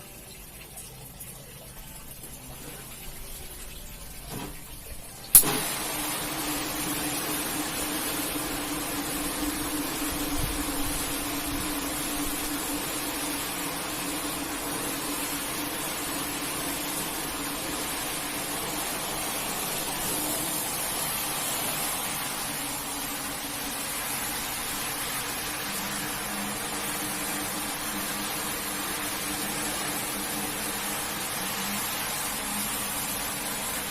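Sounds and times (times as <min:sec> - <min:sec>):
carpet cleaning machine humming: 0:05.4 - 0:33.9
water hissing over carpet: 0:05.4 - 0:33.9.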